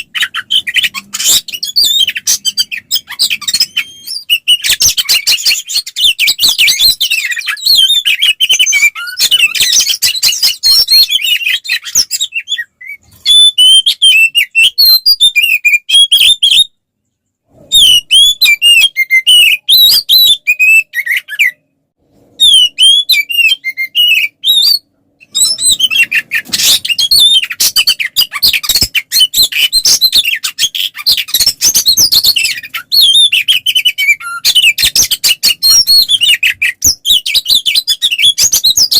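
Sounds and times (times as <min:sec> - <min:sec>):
magpie-robin singing: 0:00.0 - 0:16.7, 0:17.7 - 0:21.7, 0:22.4 - 0:38.9.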